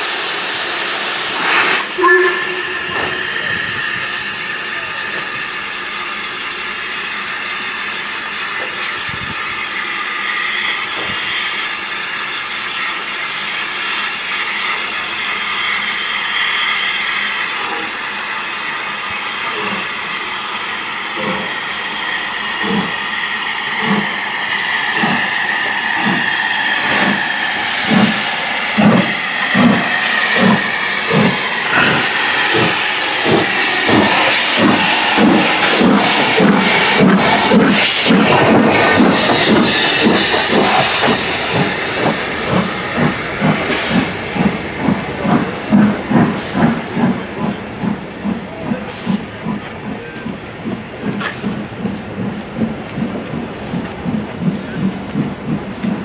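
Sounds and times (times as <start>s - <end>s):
hiss of escaping steam: 0.0s - 12.0s, 14.3s - 50.0s
steam locomotive low pulses: 0.0s - 56.0s.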